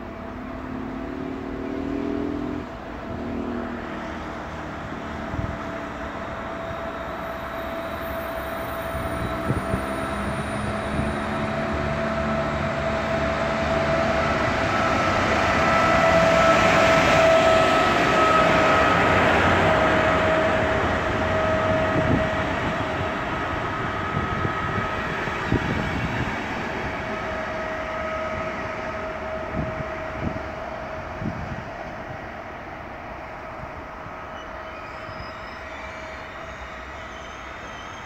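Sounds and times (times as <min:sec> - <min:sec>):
train rumble with whine: 0:00.0 - 0:38.0.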